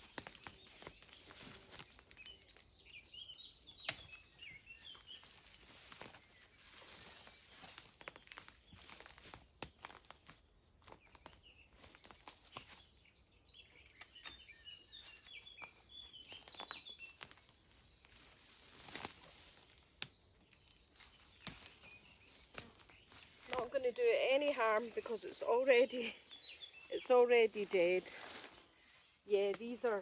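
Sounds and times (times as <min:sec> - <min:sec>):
rustling: 0:00.0 - 0:02.6, 0:03.8 - 0:13.0, 0:15.0 - 0:30.0
branches and twigs snapping: 0:00.0 - 0:03.0, 0:03.6 - 0:13.0, 0:13.7 - 0:30.0
bird singing: 0:00.0 - 0:09.3, 0:09.9 - 0:30.0.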